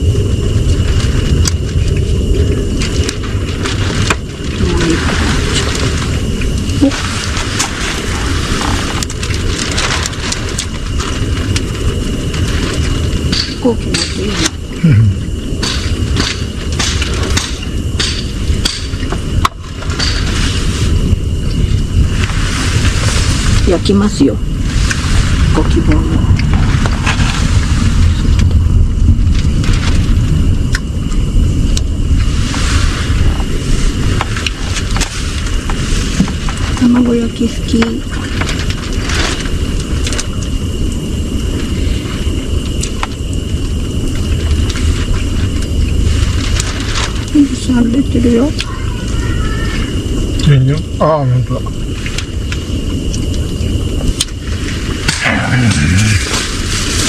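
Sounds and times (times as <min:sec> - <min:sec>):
high whine: 0:00.0 - 0:57.0
steady low rumble: 0:00.0 - 0:57.0.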